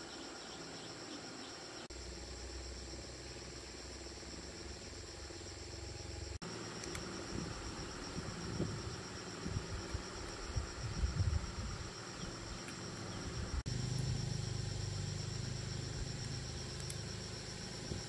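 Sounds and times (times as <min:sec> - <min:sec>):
insects trilling: 0:00.0 - 0:18.0
low hum: 0:01.9 - 0:18.0.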